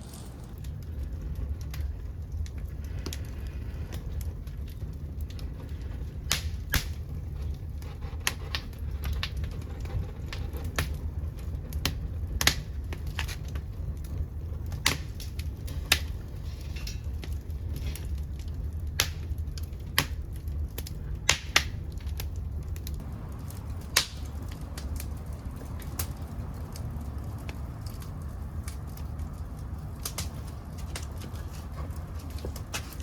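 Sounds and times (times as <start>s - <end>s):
low steady rumble: 0.0s - 33.0s
wood crackling and popping: 0.0s - 33.0s.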